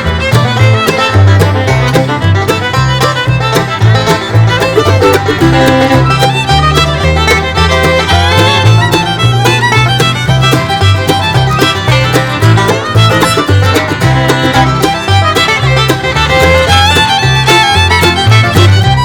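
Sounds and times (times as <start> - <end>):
banjo: 0.0 - 19.0
fiddle: 0.0 - 19.0
guitar: 0.0 - 19.0
walking bass line: 0.0 - 19.0.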